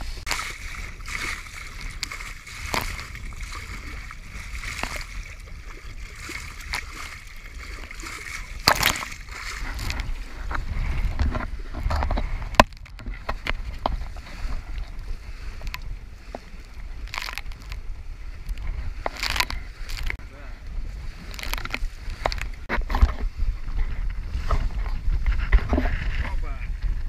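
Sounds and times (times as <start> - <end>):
water splashing against hull: 0.0 - 27.0
wind rumbling on microphone: 0.0 - 27.0.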